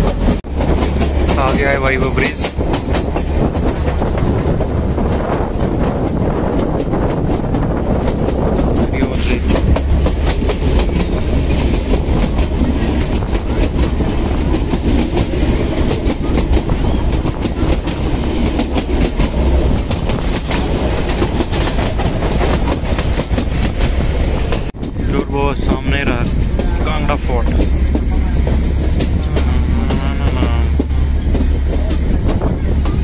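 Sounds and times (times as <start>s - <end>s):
train rumbling: 0.0s - 33.0s
wheels clattering over rails: 0.0s - 33.0s.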